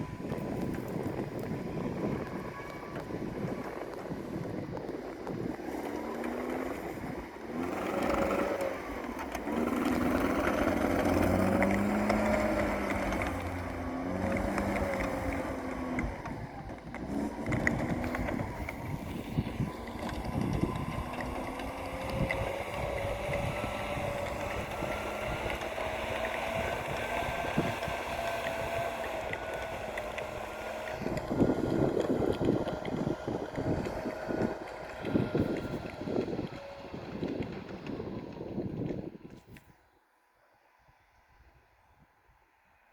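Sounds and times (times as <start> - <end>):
atv engine revving: 0.0 - 39.4.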